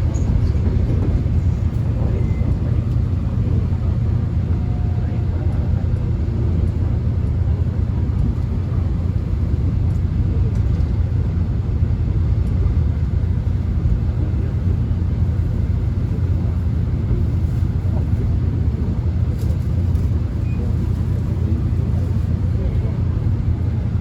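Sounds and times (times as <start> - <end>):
subway train running rumble: 0.0 - 24.0.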